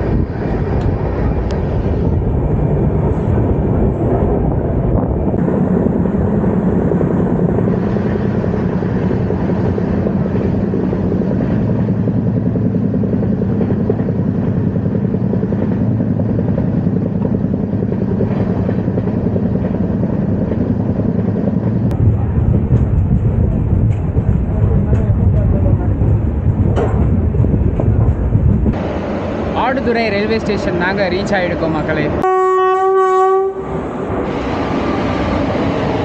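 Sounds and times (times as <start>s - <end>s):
train rumbling along tracks: 0.0s - 36.0s.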